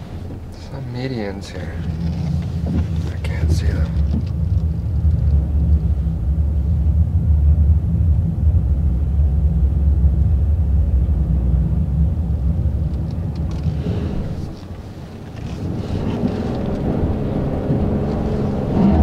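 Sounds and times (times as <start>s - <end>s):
engine and tyre rumble in car: 0.0s - 19.0s.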